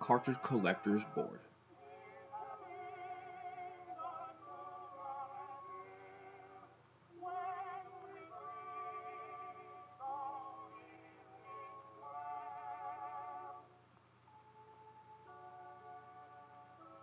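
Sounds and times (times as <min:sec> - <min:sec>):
musical accompaniment: 0:00.0 - 0:13.6, 0:14.3 - 0:17.0
person singing with vibrato: 0:00.0 - 0:13.8.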